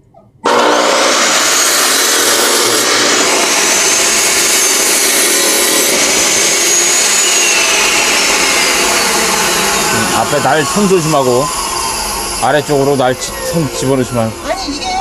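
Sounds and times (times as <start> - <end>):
cutoff saw cutting log: 0.4 - 14.4.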